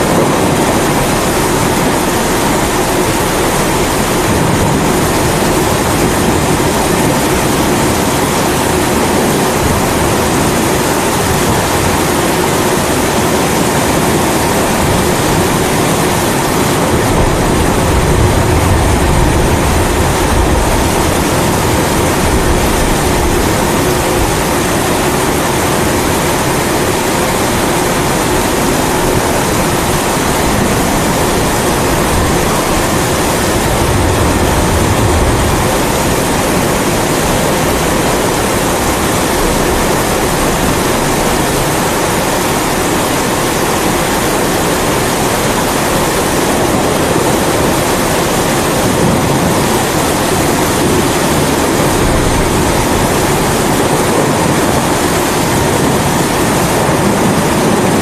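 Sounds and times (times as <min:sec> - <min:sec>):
rain: 0:00.0 - 0:58.0
thunder rumble: 0:00.0 - 0:58.0.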